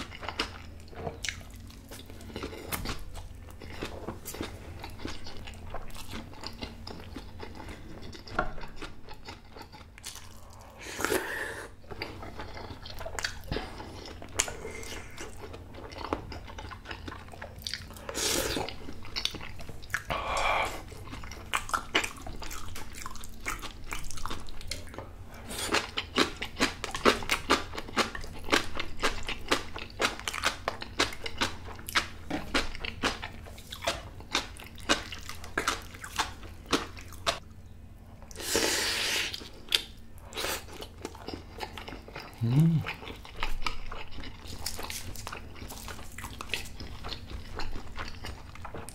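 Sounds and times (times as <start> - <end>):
person chewing crunchy food: 0.0 - 37.4, 38.2 - 48.9.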